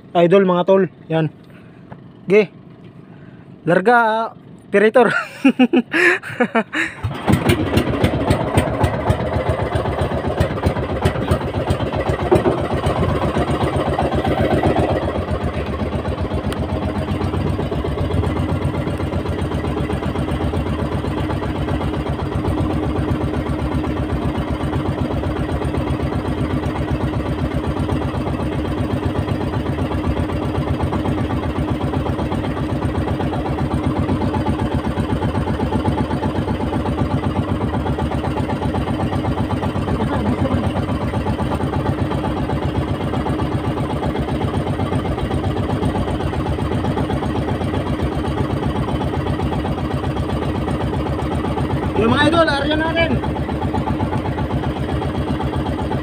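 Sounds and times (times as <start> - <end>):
boat engine starting and running: 0.0 - 56.0.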